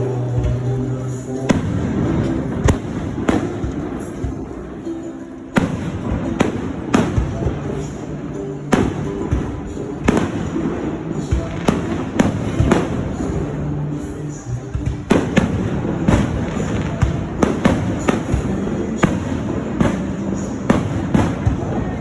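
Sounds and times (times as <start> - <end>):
fireworks bursting: 0.0 - 22.0
music playing: 0.0 - 22.0.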